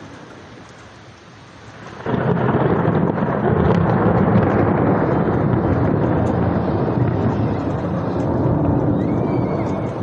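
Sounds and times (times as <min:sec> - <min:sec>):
heavy rain: 0:00.0 - 0:10.0
thunder clap and rumble: 0:01.8 - 0:10.0.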